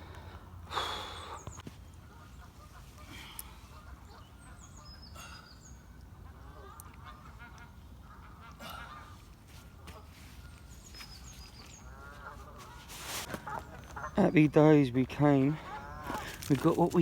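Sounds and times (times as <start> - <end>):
small birds chirping: 0.7 - 17.0
geese honking: 2.0 - 17.0.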